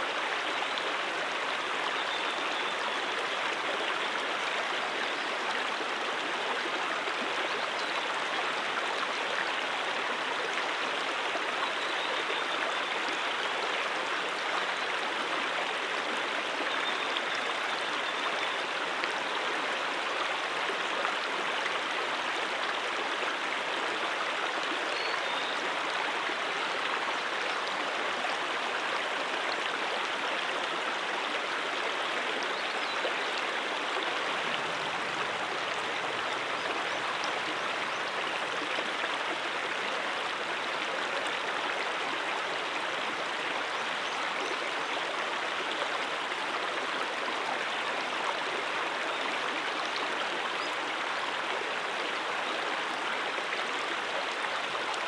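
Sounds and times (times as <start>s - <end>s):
brook water flowing: 0.0s - 55.0s.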